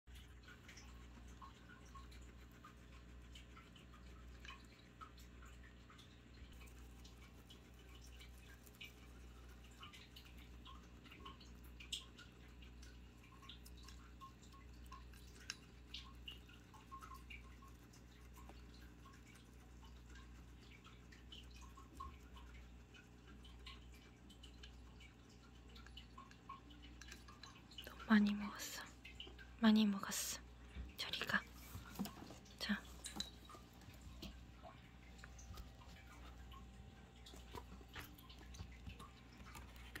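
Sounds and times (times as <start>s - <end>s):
guinea pigs chewing crunchily: 0.1s - 40.0s
low steady hum: 0.1s - 40.0s
small ticks: 0.1s - 40.0s.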